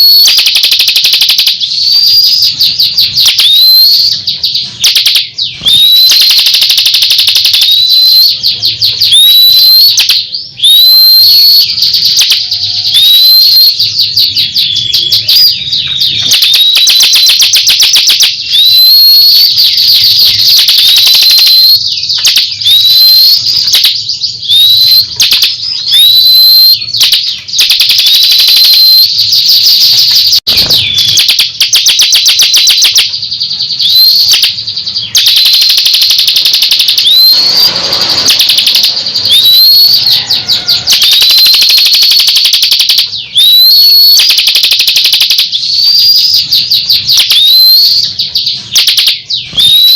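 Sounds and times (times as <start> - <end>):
bird singing fast trills: 0.0 - 49.9.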